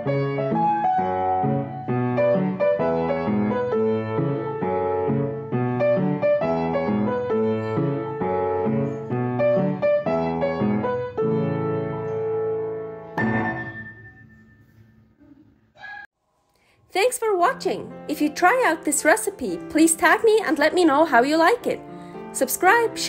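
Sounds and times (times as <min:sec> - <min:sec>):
piano music: 0:00.0 - 0:15.2, 0:17.0 - 0:23.0.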